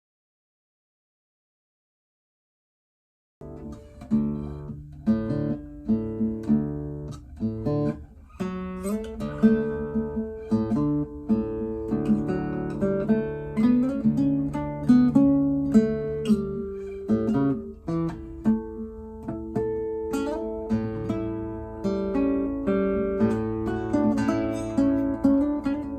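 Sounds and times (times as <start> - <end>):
classical guitar playing: 3.4 - 25.9.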